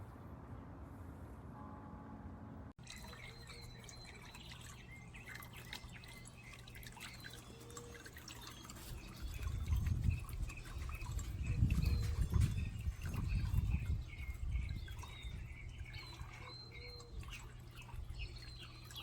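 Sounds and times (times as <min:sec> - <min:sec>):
small birds chirping: 0:02.8 - 0:19.0.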